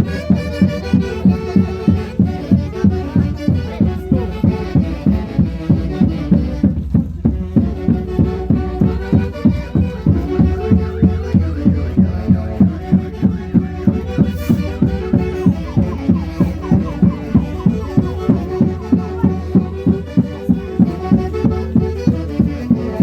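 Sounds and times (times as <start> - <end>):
folk orchestra melody: 0.0 - 23.0
pounding drum beat: 0.0 - 23.0.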